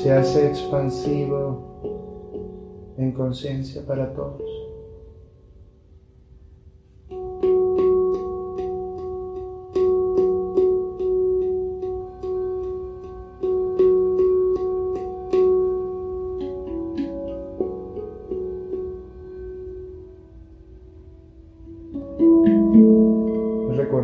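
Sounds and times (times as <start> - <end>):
handpan notes ringing: 0.0 - 5.6, 7.0 - 24.0.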